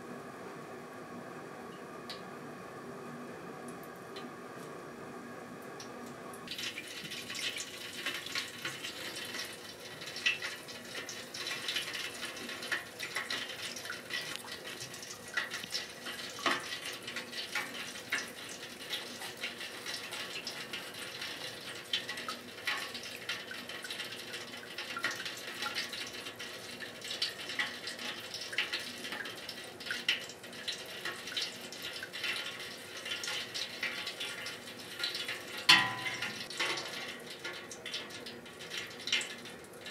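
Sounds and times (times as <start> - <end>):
oysters deep-frying with pops: 5.8 - 39.9.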